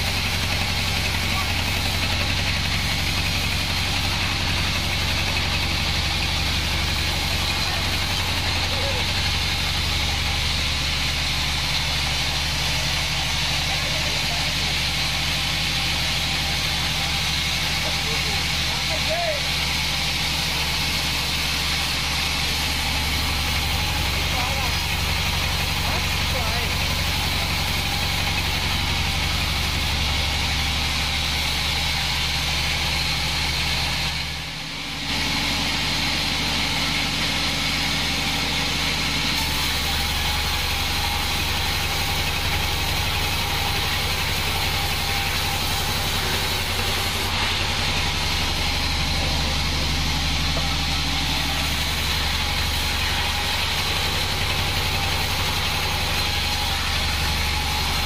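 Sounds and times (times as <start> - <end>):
band sawmill cutting log: 0.0 - 58.0.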